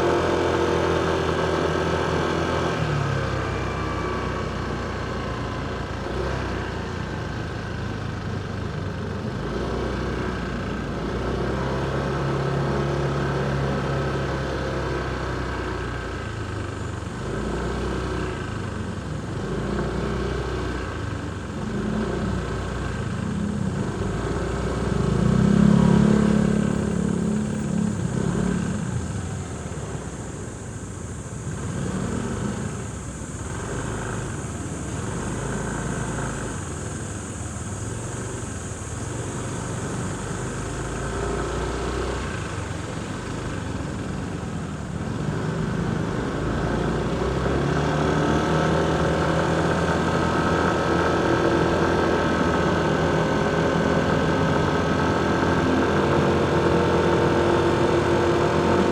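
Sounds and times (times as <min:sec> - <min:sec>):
motorcycle engine revving: 0:09.2 - 0:58.9.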